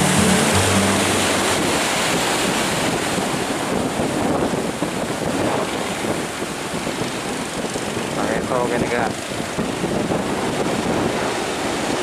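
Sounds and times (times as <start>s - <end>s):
ocean waves breaking: 0.0s - 12.0s
wind rumbling on microphone: 0.0s - 12.0s.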